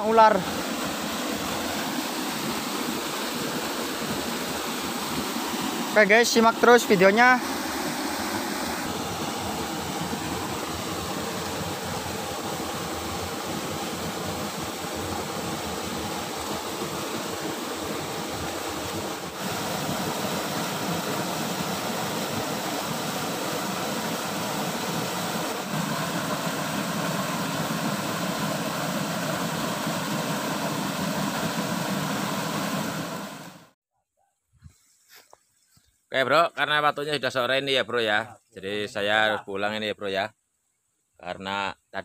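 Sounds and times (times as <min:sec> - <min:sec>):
stream flowing water: 0:00.0 - 0:33.8.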